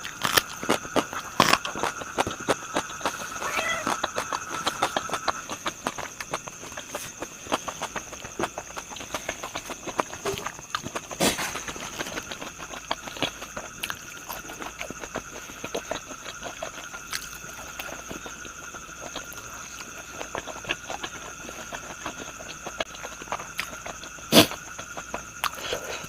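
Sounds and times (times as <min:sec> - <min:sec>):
close-up chewing and mouth sounds: 0:00.0 - 0:26.0.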